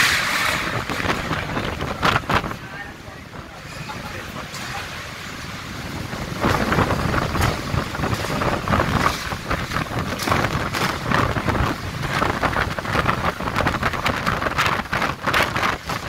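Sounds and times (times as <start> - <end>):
strong gusty wind: 0.0 - 16.0
wind buffeting microphone: 0.0 - 16.0.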